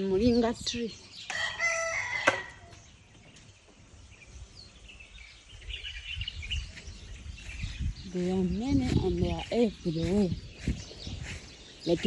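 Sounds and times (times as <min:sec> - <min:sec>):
faint high bird chirping: 0:00.0 - 0:12.0.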